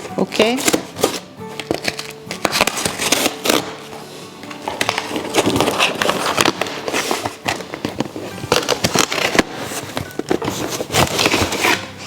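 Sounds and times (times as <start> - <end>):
cardboard and plastic crackling: 0.0 - 12.0.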